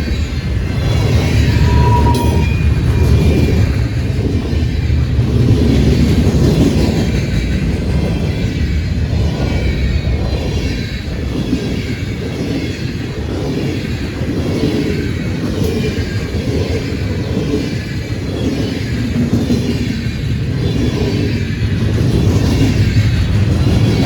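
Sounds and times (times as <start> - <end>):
freight train rumbling on rails: 0.0 - 24.0.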